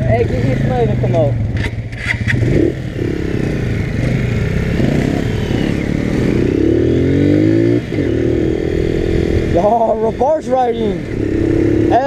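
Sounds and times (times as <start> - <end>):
small motorcycle engine accelerating: 1.5 - 12.0.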